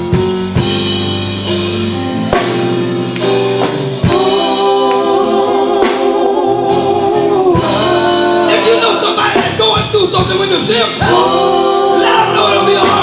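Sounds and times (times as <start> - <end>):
band with drums and guitar: 0.0 - 13.0
choir singing gospel: 0.1 - 13.0.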